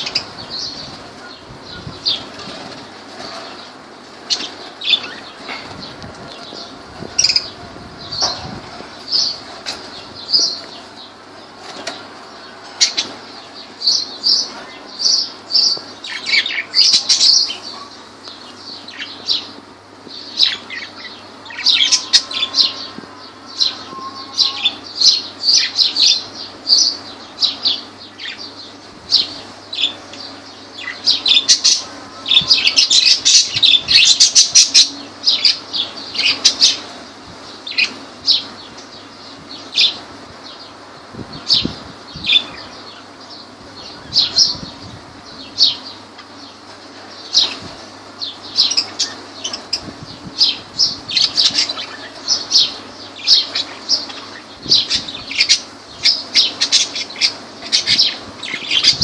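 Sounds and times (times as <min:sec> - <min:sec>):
birds chirping and squawking: 0:00.0 - 0:59.0.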